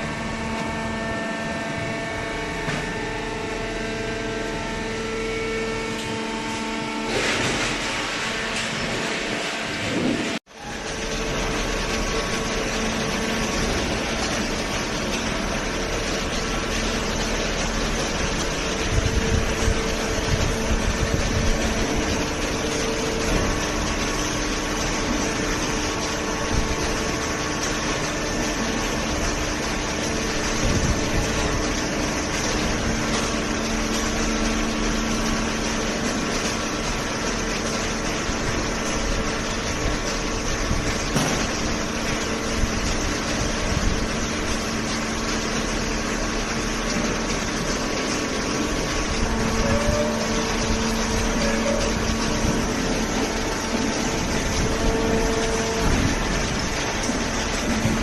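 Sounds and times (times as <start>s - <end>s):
hydraulic pump motor hum: 0.0s - 58.0s.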